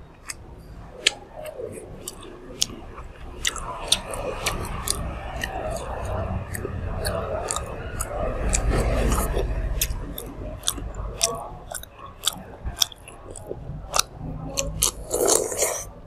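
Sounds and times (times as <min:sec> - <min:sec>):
person chewing meat: 0:00.0 - 0:16.0
wet sharp clicks: 0:01.0 - 0:15.1.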